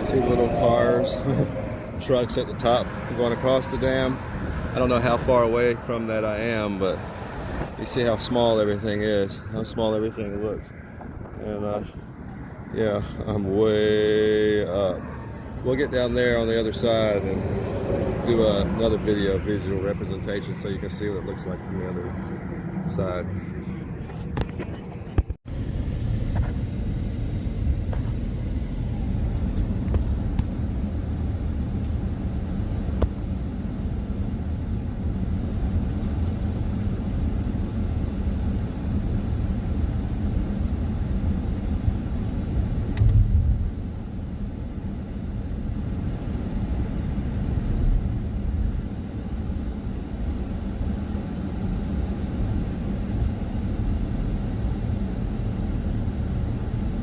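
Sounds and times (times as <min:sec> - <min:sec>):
motor vehicle rumbling on road: 0:00.0 - 0:57.0.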